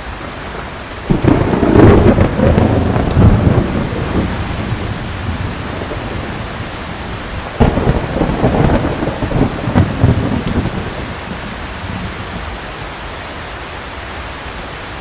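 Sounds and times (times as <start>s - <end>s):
thunder rumbling: 0.0s - 13.0s
heavy rain: 0.0s - 15.0s.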